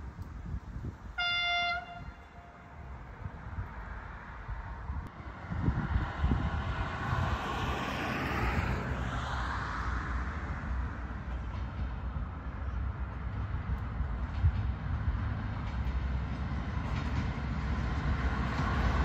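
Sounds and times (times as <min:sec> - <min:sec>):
diesel train passing: 0:01.1 - 0:19.0.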